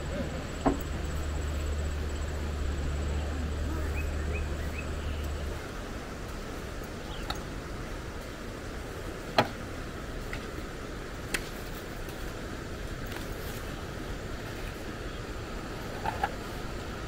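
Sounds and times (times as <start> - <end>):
low steady hum: 0.0 - 17.0
steady outdoor hiss: 0.0 - 17.0.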